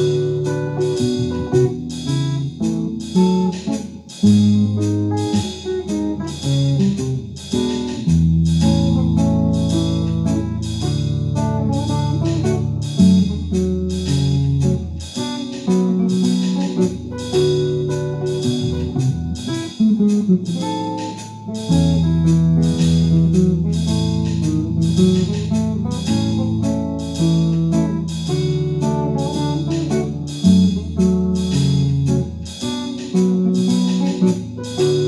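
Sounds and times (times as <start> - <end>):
electric guitar ragtime tune: 0.0 - 35.0.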